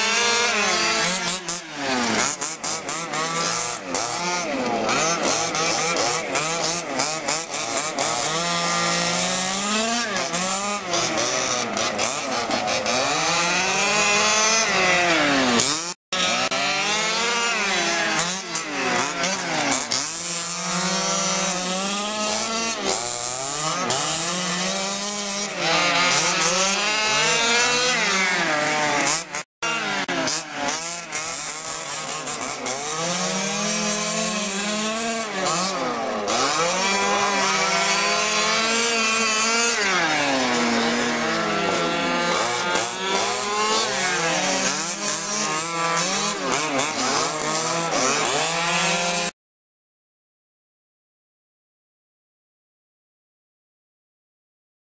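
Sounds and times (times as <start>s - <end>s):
rc car engines revving: 0.0s - 49.4s.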